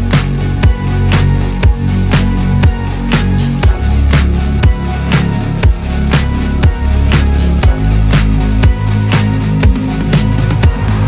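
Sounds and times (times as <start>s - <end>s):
music with steady beat and heavy bass: 0.0s - 11.0s.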